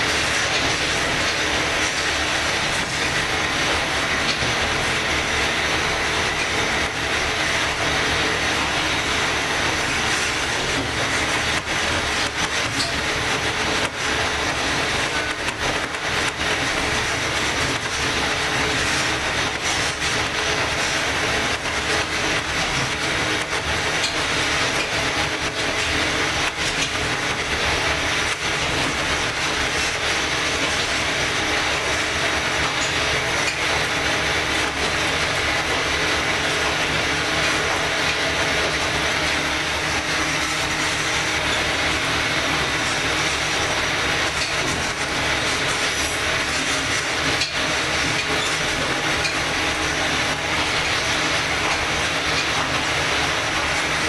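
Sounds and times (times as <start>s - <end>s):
diesel railcar running: 0.0s - 54.0s.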